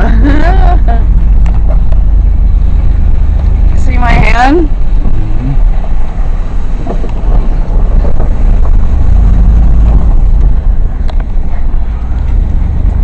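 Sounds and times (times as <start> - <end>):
truck engine and tyres rumbling: 0.0 - 13.0
wind buffeting microphone: 0.0 - 13.0.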